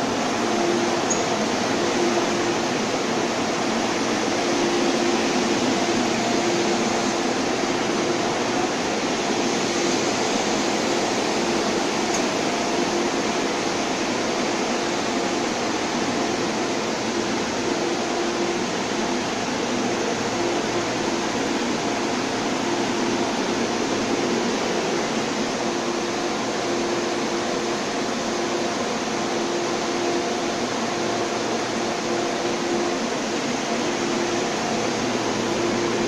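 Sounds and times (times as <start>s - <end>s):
ventilation hiss: 0.0s - 36.0s.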